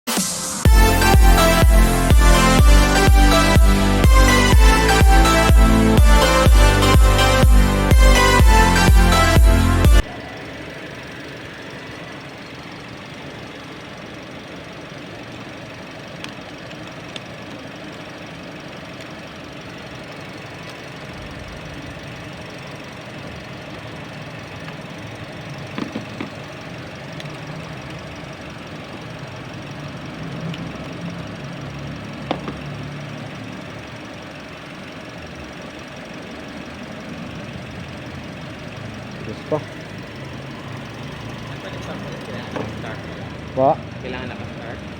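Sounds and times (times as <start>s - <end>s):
car engine idling: 0.1s - 44.9s.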